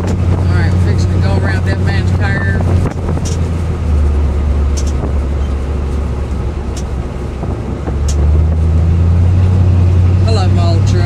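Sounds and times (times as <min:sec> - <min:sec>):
car engine and tyres droning: 0:00.0 - 0:11.0.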